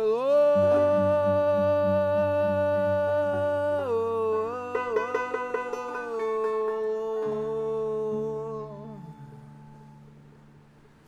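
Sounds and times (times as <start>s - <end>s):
plucked banjo notes: 0.5s - 11.0s.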